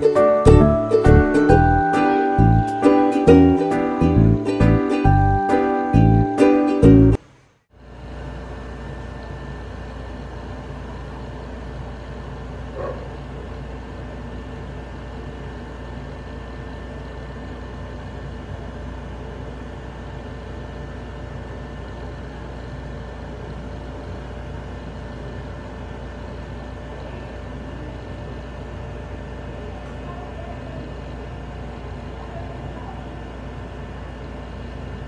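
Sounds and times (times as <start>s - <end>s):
background hum and hiss: 0.0s - 35.0s.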